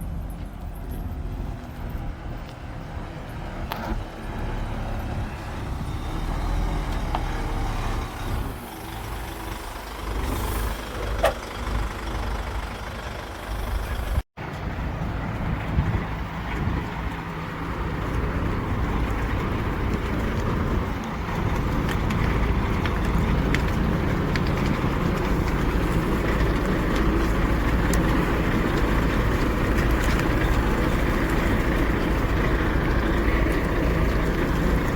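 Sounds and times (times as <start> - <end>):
heavy machinery diesel engines rumbling: 0.0 - 34.9.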